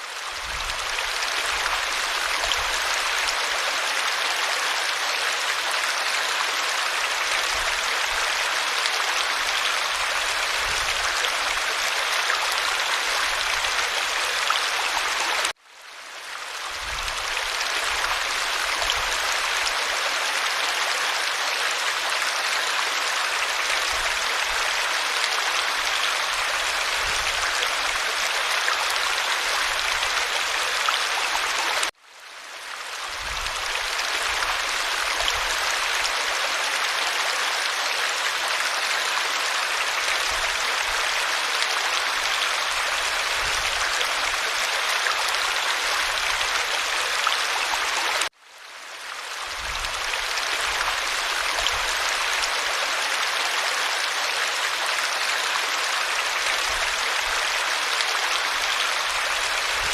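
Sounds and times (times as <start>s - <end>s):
small stream babbling: 0.0s - 59.9s.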